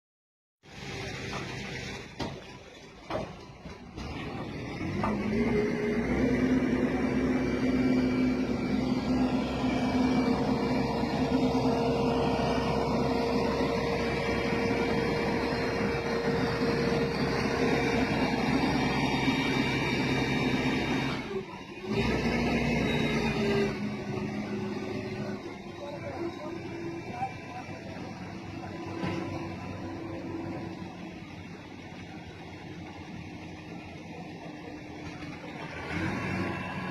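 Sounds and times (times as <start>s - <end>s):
crane engine drone: 0.6s - 36.9s
mechanical whine: 4.6s - 36.9s.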